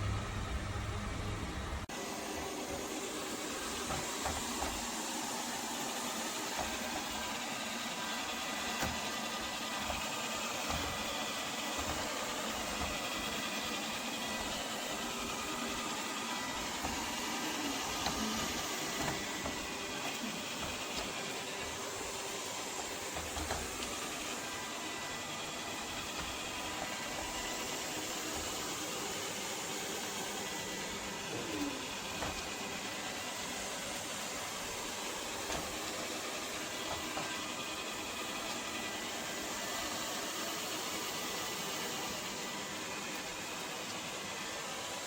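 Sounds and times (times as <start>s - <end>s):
robot vacuum whirring: 0.1s - 45.0s.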